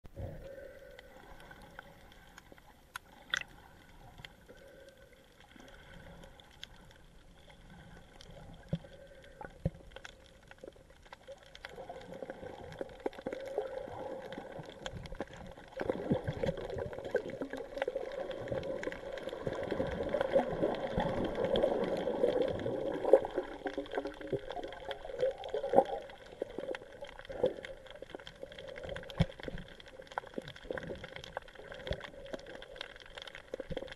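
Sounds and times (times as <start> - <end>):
underwater water noise: 0.0 - 33.9
faint steady hum: 0.1 - 30.5.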